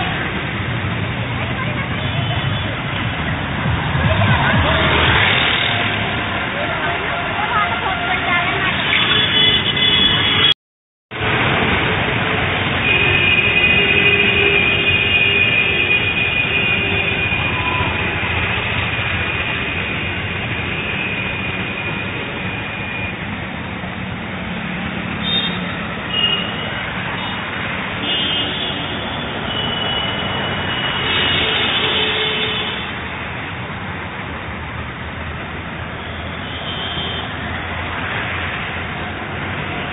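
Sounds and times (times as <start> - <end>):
traffic on wet road: 0.0 - 10.6, 11.2 - 39.9.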